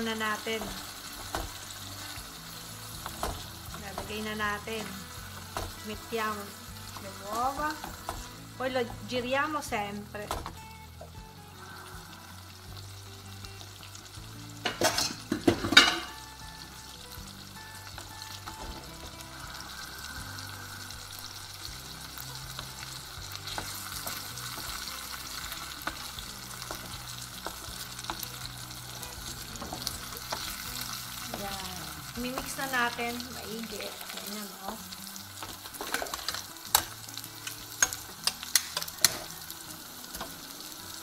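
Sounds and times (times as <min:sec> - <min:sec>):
eggs and pork sizzling in pan: 0:00.0 - 0:41.0.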